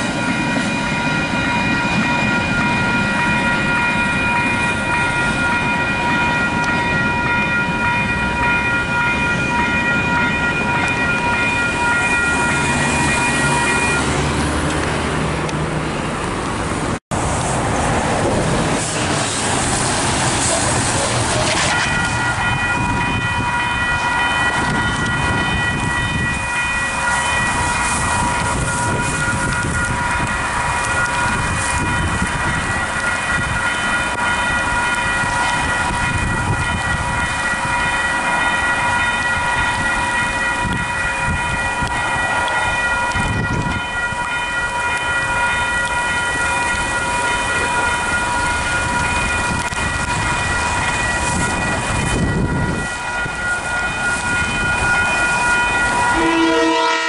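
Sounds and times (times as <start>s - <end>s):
steady high ringing tone: 0.0s - 14.1s, 21.7s - 57.0s
freight train rumbling: 0.0s - 57.0s.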